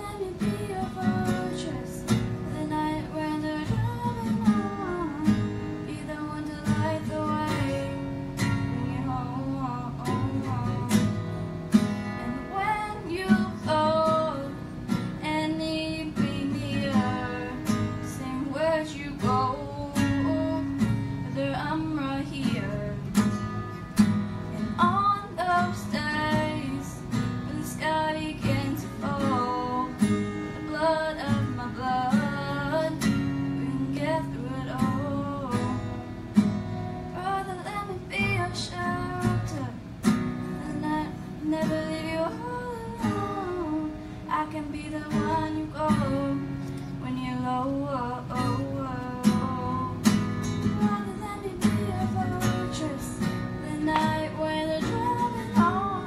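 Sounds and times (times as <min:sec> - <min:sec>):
strummed acoustic guitar: 0:00.0 - 0:56.0
woman singing: 0:00.0 - 0:56.0.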